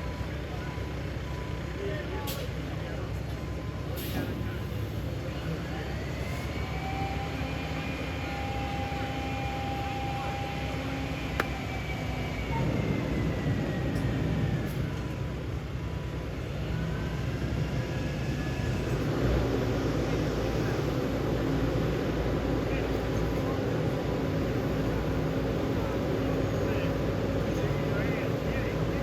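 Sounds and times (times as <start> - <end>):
paving machine engine rumble: 0.0 - 29.0.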